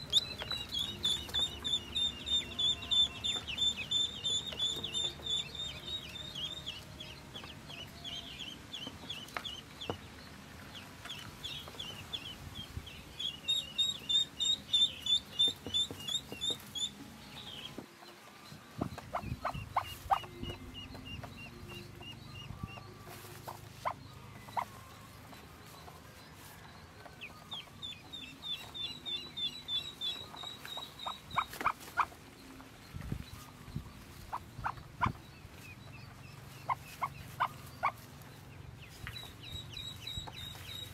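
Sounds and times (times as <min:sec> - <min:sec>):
ducklings peeping: 0:00.0 - 0:40.9.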